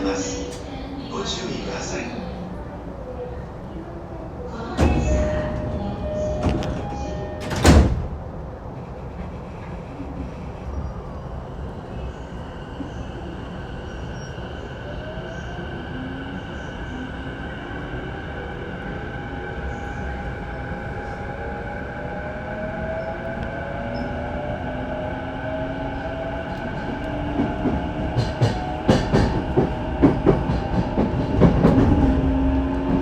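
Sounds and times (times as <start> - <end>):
train running hum: 0.0 - 33.0.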